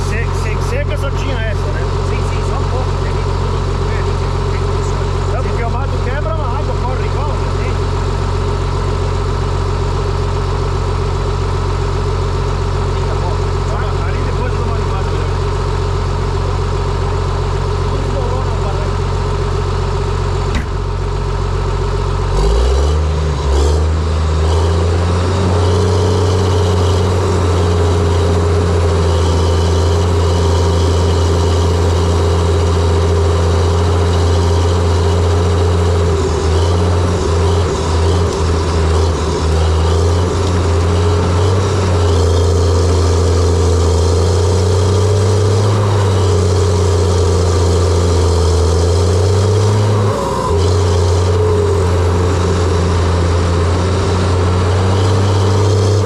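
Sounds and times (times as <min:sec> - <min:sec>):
dozer diesel engine revving: 0:00.0 - 0:56.0.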